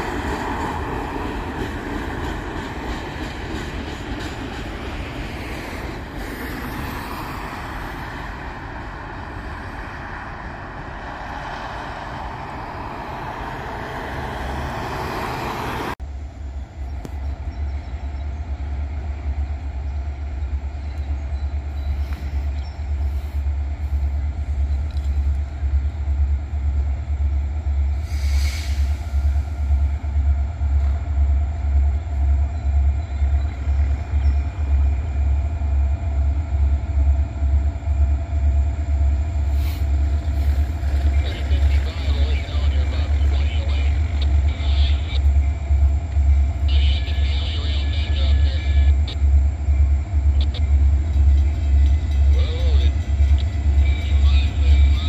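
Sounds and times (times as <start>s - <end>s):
steam locomotive rumble: 0.0s - 55.0s.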